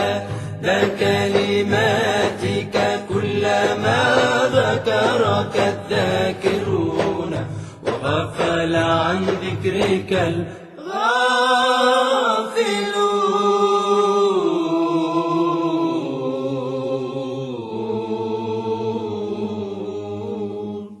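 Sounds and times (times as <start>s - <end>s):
wordless chanted vocal drone: 0.0s - 21.0s.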